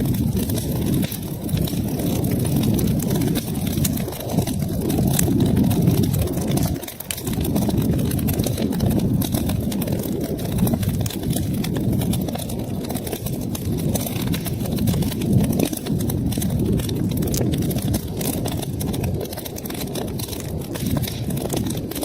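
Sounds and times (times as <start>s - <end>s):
fire crackling and popping: 0.0s - 22.0s
low roar of flames: 0.0s - 22.0s.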